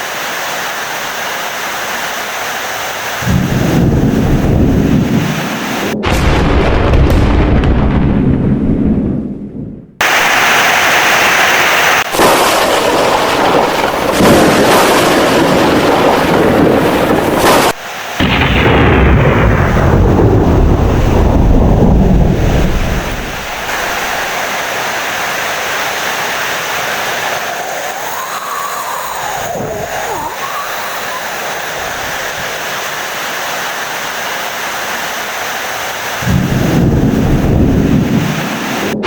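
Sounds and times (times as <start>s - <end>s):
heavy rain: 0.0s - 6.0s, 10.0s - 39.0s
thunder rumble: 3.2s - 32.9s, 36.0s - 39.0s.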